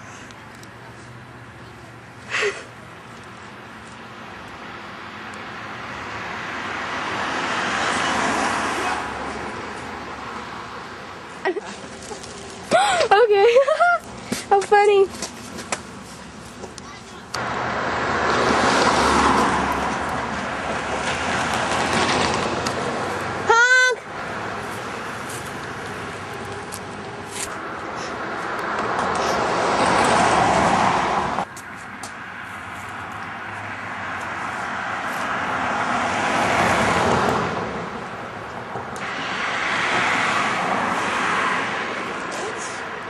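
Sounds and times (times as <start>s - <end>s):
vehicle passing on road: 0.0s - 43.0s.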